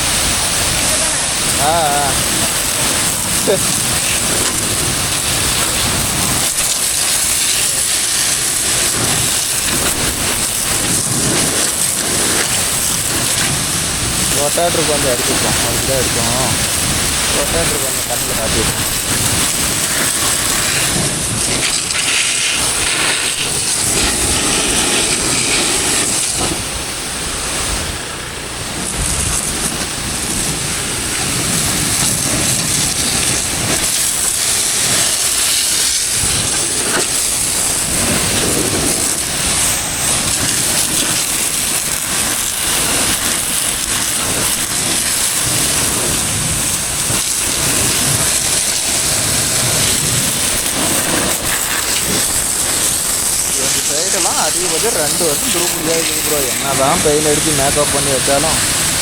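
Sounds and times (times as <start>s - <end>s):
high-pressure water jet hissing: 0.0s - 59.0s.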